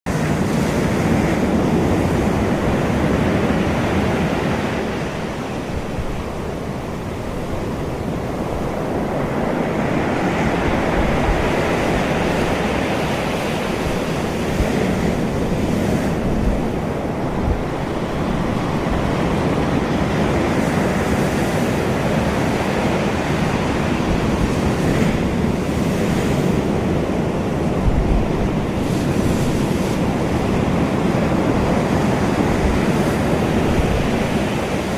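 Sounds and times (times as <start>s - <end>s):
ocean waves washing in: 0.1s - 34.9s.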